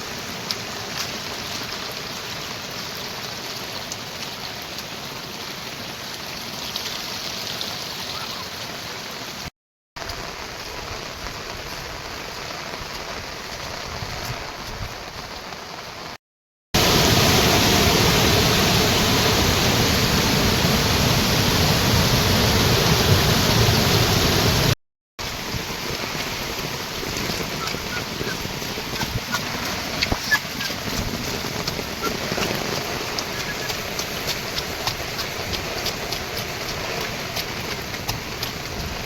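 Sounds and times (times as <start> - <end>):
heavy rain falling: 0.0 - 16.2, 16.8 - 39.0.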